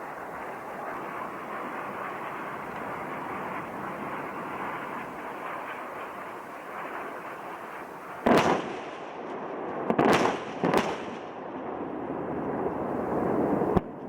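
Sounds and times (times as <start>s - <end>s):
explosive bangs: 0.3s - 13.9s.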